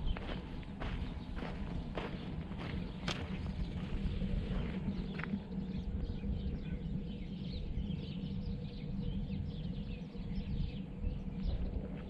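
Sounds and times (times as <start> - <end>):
low rumble: 0.0 - 12.0
small birds chirping: 0.0 - 12.0.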